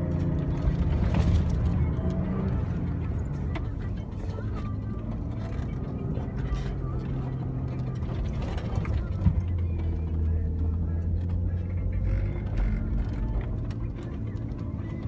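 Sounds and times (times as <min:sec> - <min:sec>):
suv engine running under load: 0:00.0 - 0:15.0.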